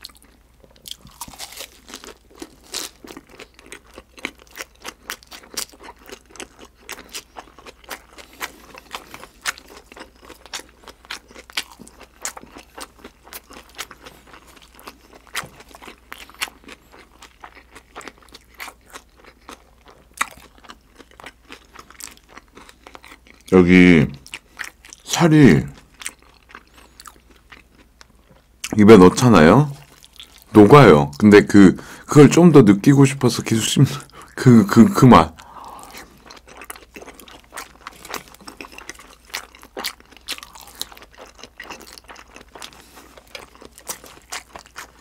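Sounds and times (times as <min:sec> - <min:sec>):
wet crunchy chewing: 0:00.0 - 0:23.6, 0:25.8 - 0:28.8, 0:29.7 - 0:31.2, 0:34.0 - 0:45.0.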